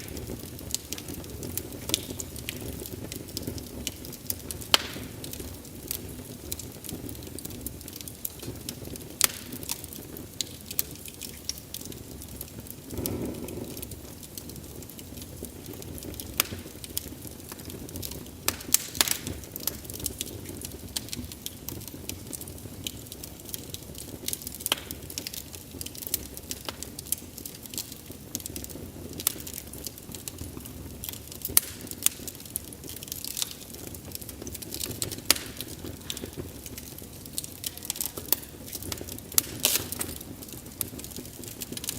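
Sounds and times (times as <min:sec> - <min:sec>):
low rush of flame: 0:00.0 - 0:41.9
wood fire crackling: 0:00.0 - 0:41.9.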